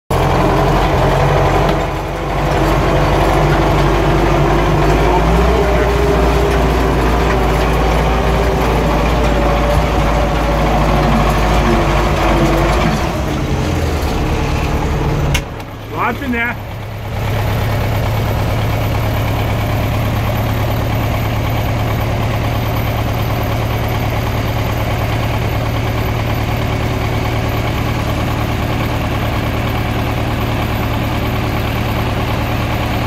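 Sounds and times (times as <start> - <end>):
tractor engine running: 0.1 - 33.0.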